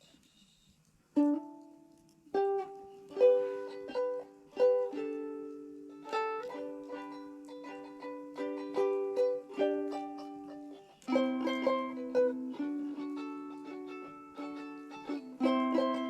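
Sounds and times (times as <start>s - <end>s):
ukulele strummed and plucked: 1.1s - 16.0s.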